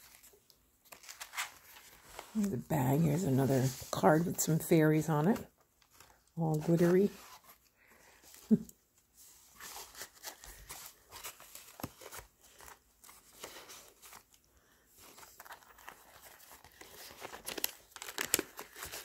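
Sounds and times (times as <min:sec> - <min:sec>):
paper and gift bag rustling: 0:00.0 - 0:19.0.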